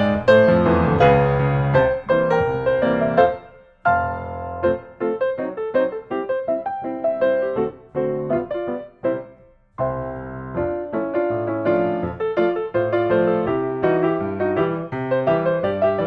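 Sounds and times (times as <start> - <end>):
jaunty piano music: 0.0 - 16.0.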